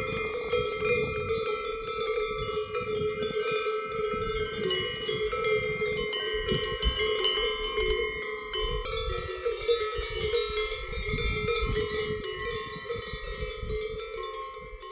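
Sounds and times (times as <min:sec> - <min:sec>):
cowbells clanking: 0:00.0 - 0:14.9.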